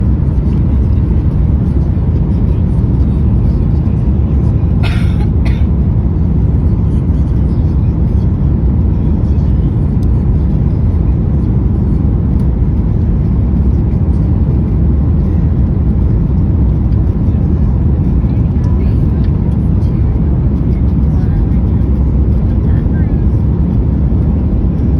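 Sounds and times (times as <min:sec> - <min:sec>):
aircraft cabin engine rumble: 0:00.0 - 0:24.9.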